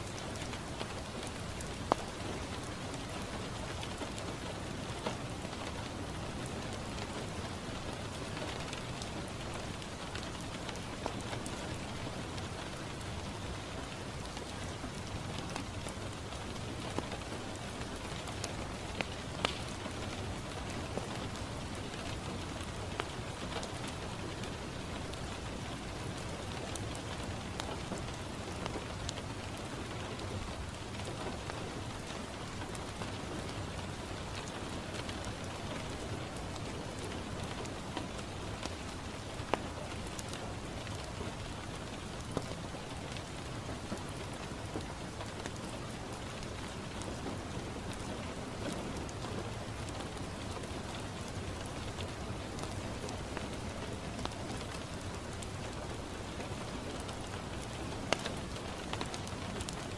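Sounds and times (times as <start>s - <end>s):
rain on a window: 0.0s - 59.9s
wood fire crackling: 0.0s - 59.9s.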